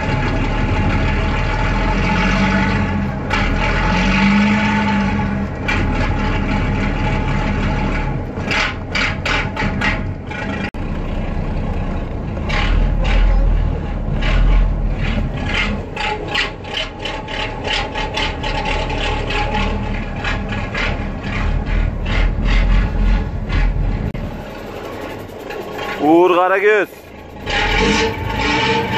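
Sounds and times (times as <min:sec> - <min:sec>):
diesel truck engine idling: 0:00.0 - 0:28.9.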